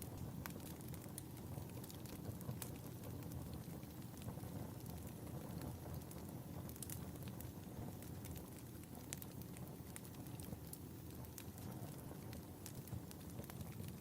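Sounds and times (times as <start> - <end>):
fire crackling: 0.0 - 14.0
fireplace fire rumbling: 0.0 - 14.0.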